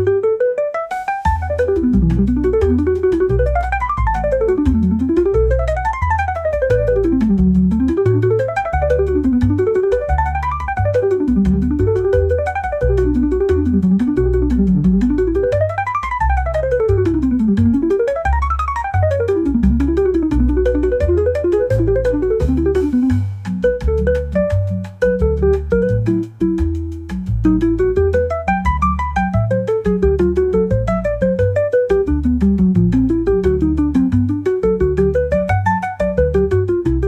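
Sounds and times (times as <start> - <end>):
light percussion ticking: 0.9 - 37.0
walking bass line: 1.2 - 37.0.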